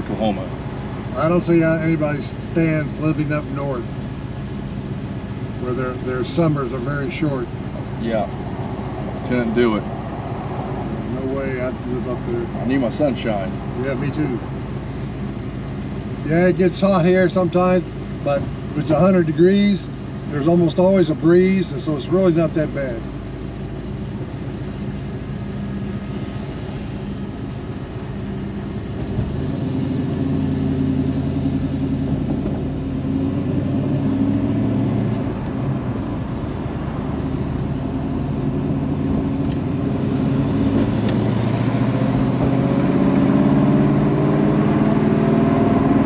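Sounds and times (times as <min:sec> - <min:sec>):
car engine and exhaust: 0:00.0 - 0:46.0.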